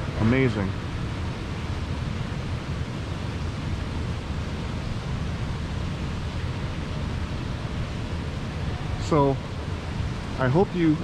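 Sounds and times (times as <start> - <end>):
steady rushing background noise: 0.0 - 11.0.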